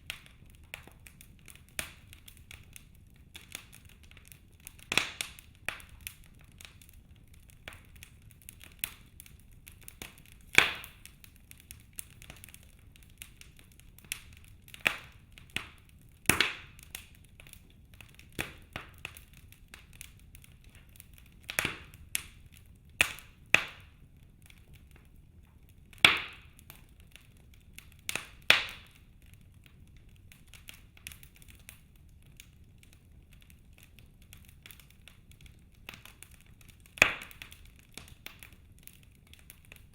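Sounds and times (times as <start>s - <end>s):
logs crackling in fireplace: 0.0s - 39.9s
low rumble of fire: 0.0s - 39.9s.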